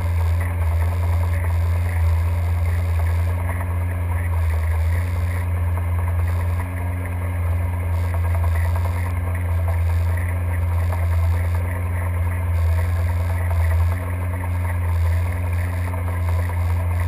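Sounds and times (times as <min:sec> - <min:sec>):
boat engine hum underwater: 0:00.0 - 0:17.0.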